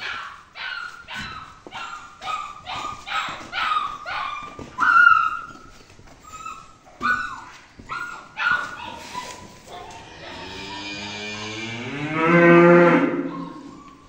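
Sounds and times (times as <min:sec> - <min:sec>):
dog yelping and whining: 0:00.0 - 0:10.9, 0:13.3 - 0:14.0.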